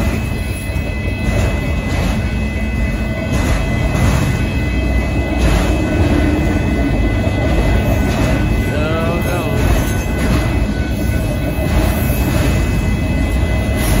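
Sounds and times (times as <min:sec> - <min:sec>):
crossing bell ringing: 0:00.0 - 0:14.0
train wheels rumbling on rails: 0:00.0 - 0:14.0.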